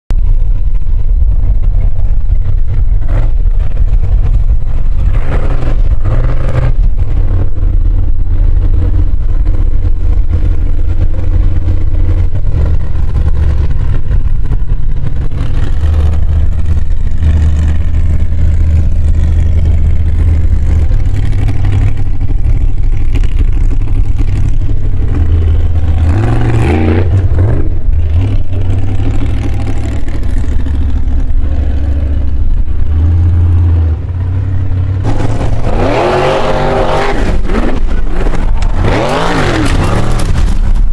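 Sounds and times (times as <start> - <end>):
buggy engine revving: 0.1 - 40.9.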